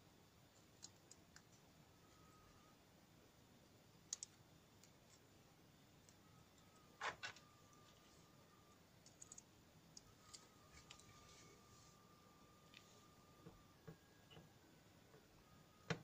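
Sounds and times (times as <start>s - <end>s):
faint thin steady tone: 0.0s - 16.0s.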